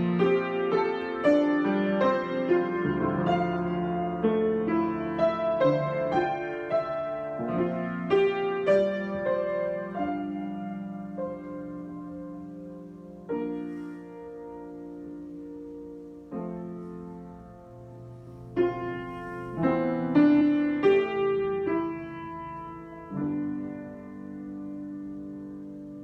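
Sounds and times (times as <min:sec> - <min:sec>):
solo piano chords: 0:00.0 - 0:26.0.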